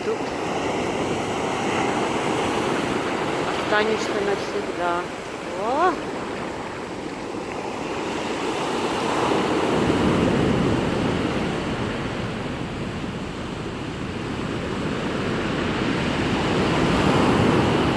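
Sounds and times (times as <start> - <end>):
rough surf breaking: 0.0 - 17.9.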